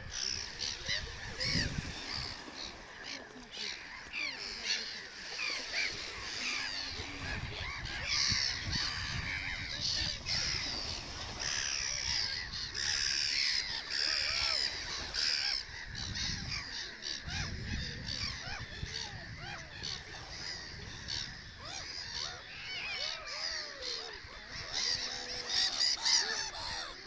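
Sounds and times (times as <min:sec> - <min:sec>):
many birds calling: 0:00.0 - 0:27.0.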